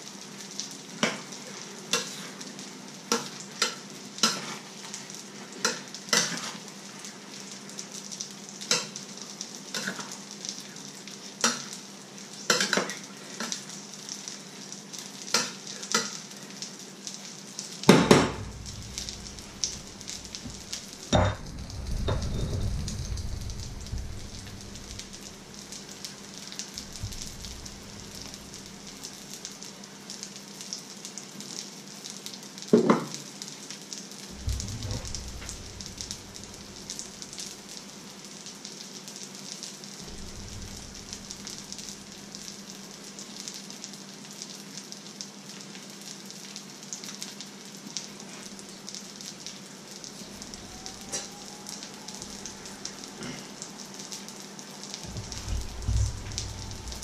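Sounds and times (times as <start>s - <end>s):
fish frying in a pan: 0.0s - 57.0s.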